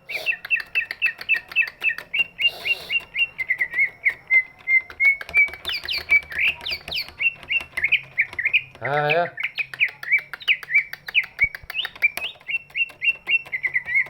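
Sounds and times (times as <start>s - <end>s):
bird chirping and trilling: 0.0s - 14.0s.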